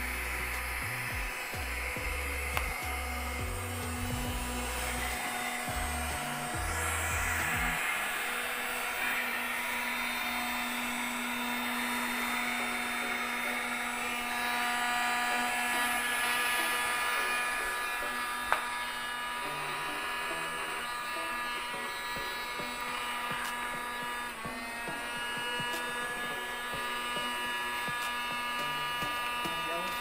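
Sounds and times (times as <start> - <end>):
electric air pump humming: 0.0 - 30.0.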